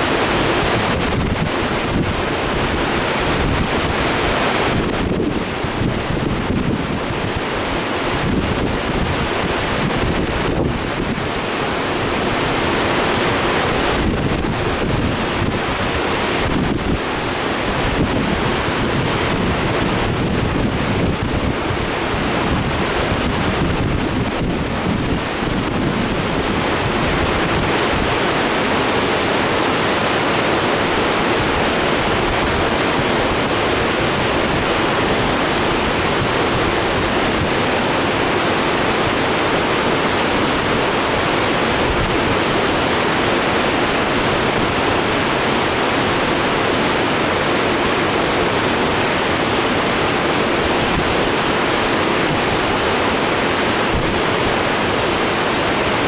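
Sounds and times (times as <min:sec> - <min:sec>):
creek rushing below a dam: 0:00.0 - 0:56.0.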